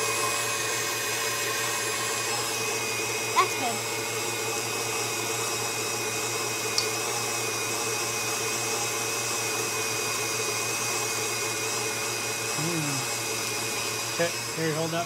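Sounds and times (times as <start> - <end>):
electric stand mixer running: 0.0 - 15.0.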